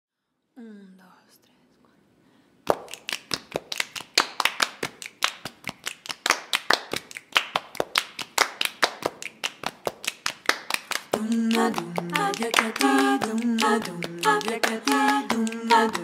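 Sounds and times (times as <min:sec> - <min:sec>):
people clapping in rhythm: 0:02.6 - 0:16.0.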